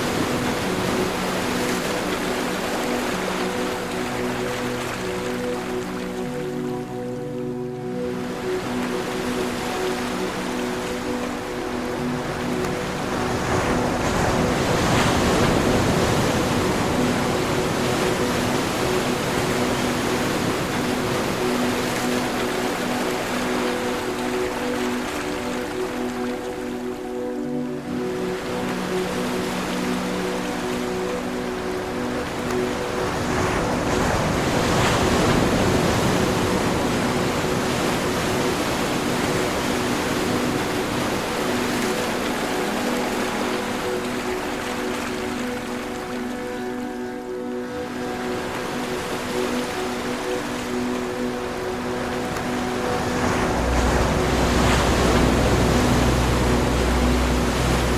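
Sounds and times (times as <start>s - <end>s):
soft held musical notes: 0.0s - 57.9s
ocean wave breaking: 7.9s - 57.9s.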